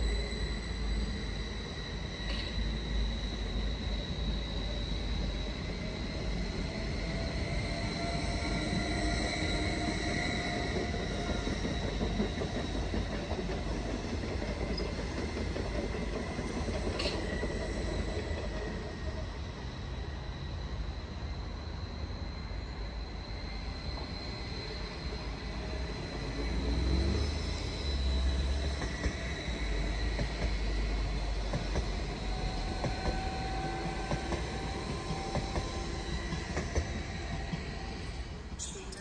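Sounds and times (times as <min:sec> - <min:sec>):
train wheels rolling: 0:00.0 - 0:20.7, 0:22.6 - 0:39.0
electric train whining: 0:00.0 - 0:39.0.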